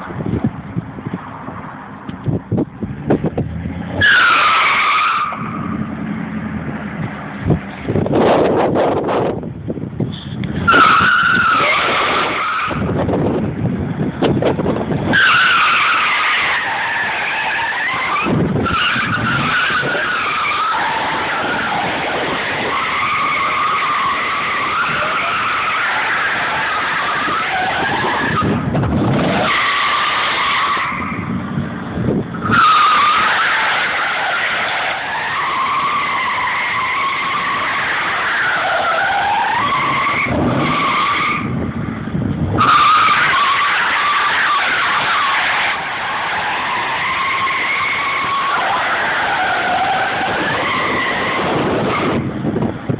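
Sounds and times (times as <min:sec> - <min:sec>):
engine surging: 0:00.0 - 0:52.9
tyres squealing on pavement: 0:03.7 - 0:09.3, 0:10.0 - 0:13.4, 0:14.2 - 0:41.7, 0:42.5 - 0:52.5.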